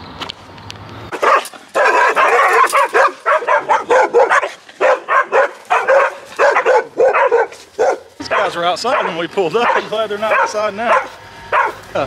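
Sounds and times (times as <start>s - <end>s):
dogs barking: 1.1s - 11.8s.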